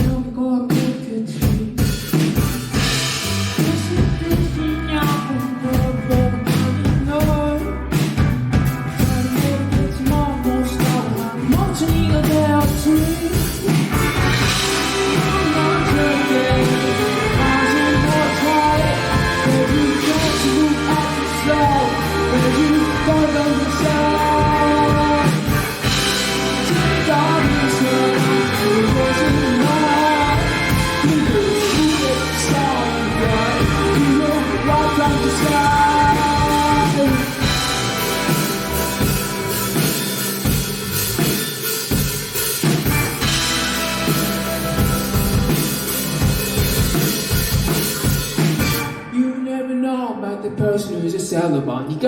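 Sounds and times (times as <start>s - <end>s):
rock band playing live: 0.0s - 49.3s
bending lead guitar melody: 2.4s - 49.3s.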